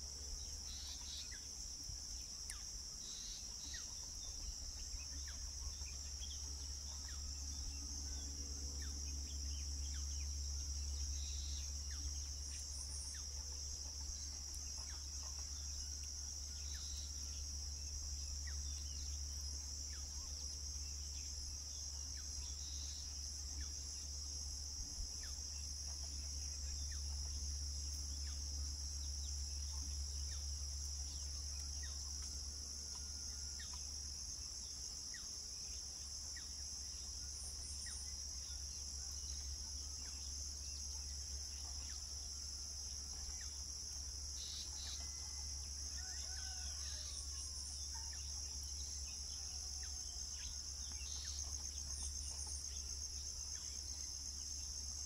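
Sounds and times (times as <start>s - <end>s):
low steady hum: 0.0s - 46.0s
insect chorus trilling: 0.0s - 55.0s.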